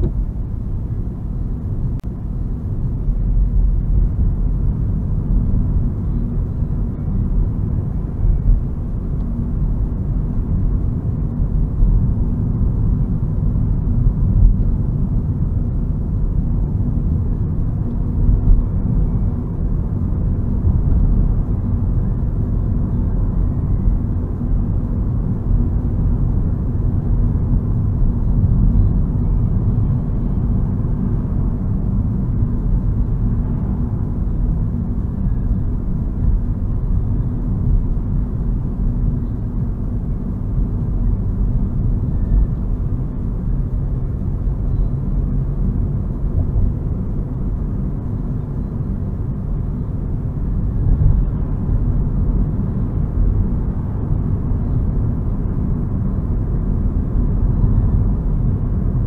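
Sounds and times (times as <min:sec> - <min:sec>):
car interior engine and road rumble: 0:00.0 - 0:59.0.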